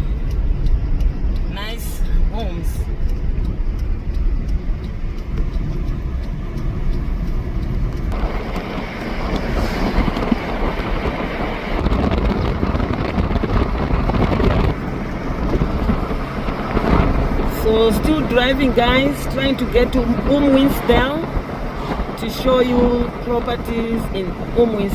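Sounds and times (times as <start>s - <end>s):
car engine and road rumble: 0.0s - 24.9s.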